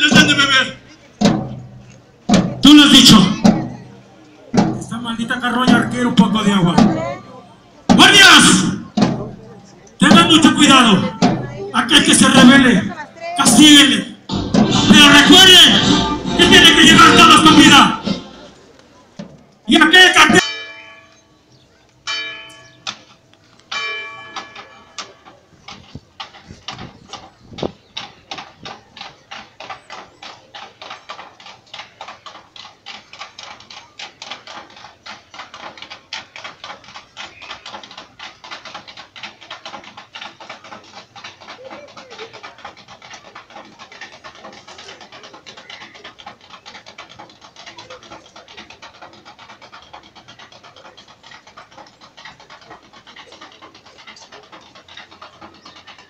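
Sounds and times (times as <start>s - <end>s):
fast regular rattling: 0.0s - 20.4s, 22.6s - 56.0s.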